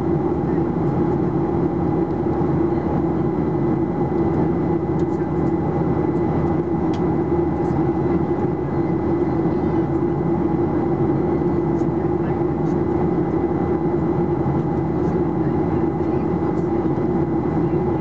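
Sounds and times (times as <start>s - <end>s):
jet engine drone: 0.0s - 18.0s.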